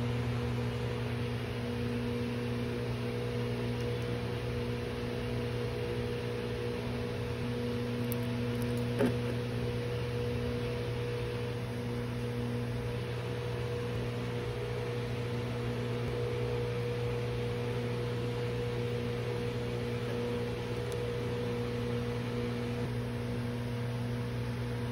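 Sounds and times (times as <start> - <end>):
steady hum: 0.0 - 24.9.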